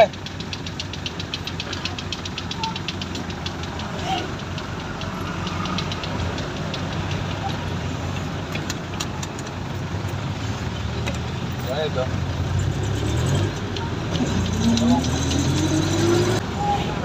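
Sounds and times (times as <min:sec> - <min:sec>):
diesel engine ticking clatter: 0:00.0 - 0:17.0.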